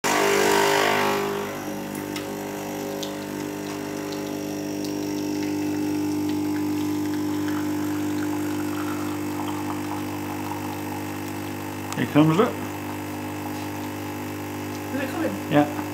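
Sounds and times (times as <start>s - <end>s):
coffee machine pump buzzing: 0.0s - 15.9s.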